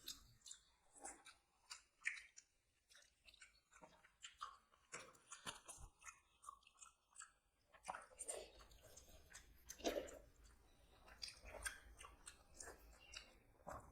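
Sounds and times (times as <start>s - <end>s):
person chewing: 0.0s - 13.9s.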